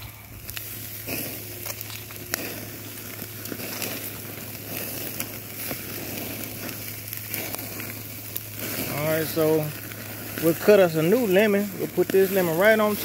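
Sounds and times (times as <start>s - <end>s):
fat and coals popping: 0.0s - 13.0s
meat sizzling on a grill: 0.0s - 13.0s.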